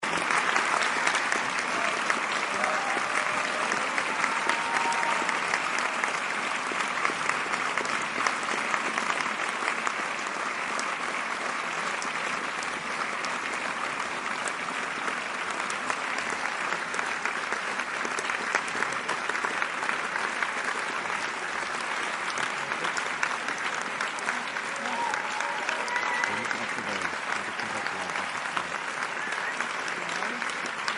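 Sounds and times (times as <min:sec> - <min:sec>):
audience applauding: 0:00.0 - 0:30.9.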